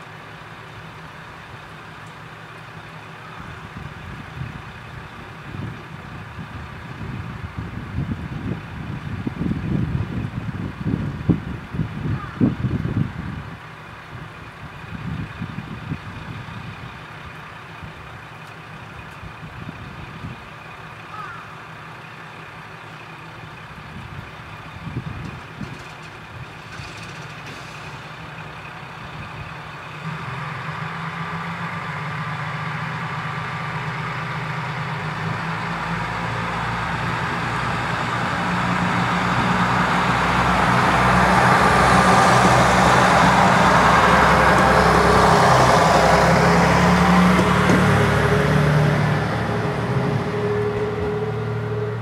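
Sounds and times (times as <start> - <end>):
diesel railcar pulling away: 0.0 - 52.0.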